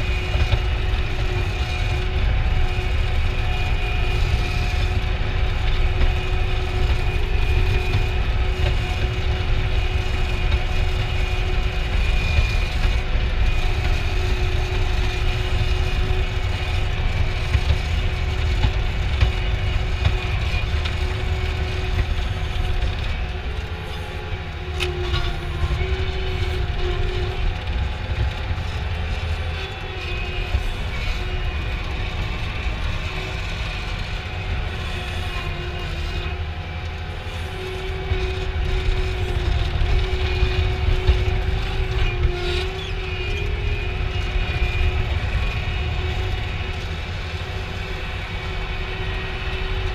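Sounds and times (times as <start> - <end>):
engine running steadily: 0.0 - 49.9.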